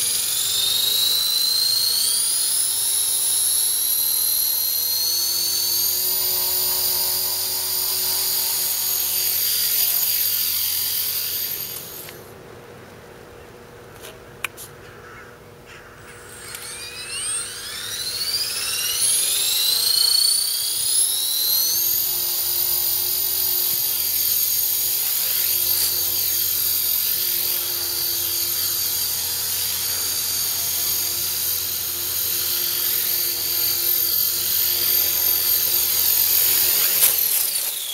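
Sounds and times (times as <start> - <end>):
rc helicopter motor whine: 0.0 - 12.3, 15.1 - 37.9.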